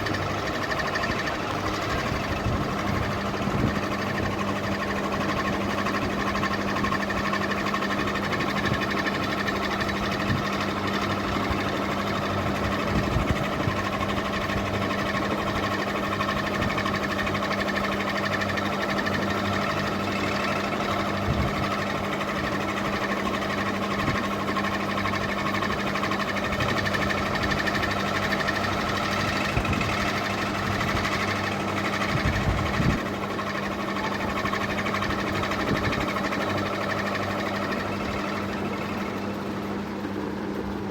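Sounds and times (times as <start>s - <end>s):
ceiling fan motor hum: 0.0s - 40.9s.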